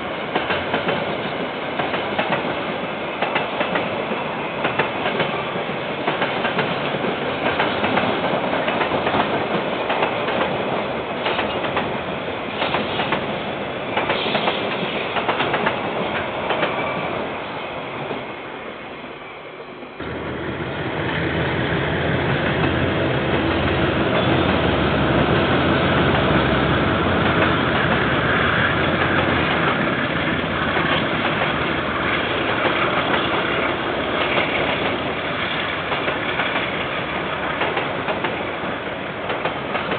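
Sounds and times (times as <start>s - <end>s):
diesel locomotive engine drone: 0.0s - 39.9s
train wheels clacking over rails: 0.2s - 17.4s, 20.0s - 39.9s.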